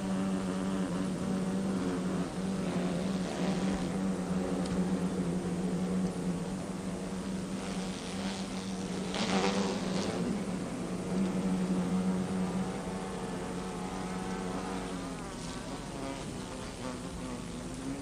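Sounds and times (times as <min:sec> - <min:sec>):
bumblebees buzzing: 0:00.0 - 0:18.0
rustling hiss: 0:00.0 - 0:18.0.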